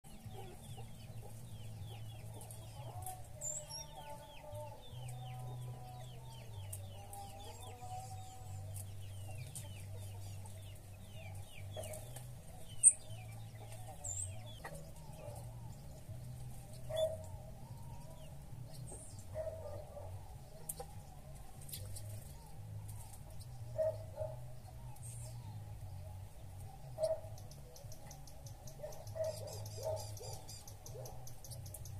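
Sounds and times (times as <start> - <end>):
chickens clucking: 0.1 - 31.9.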